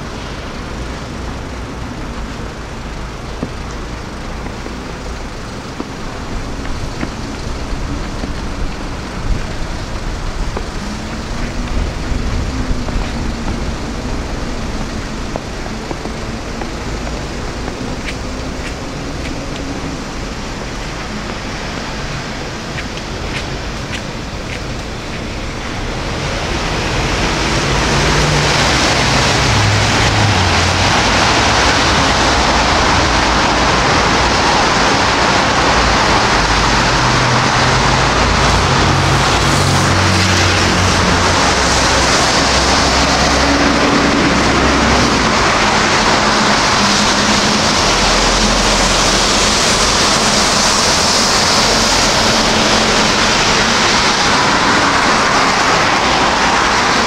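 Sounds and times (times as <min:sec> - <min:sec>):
engine hum: 0:00.0 - 0:57.0.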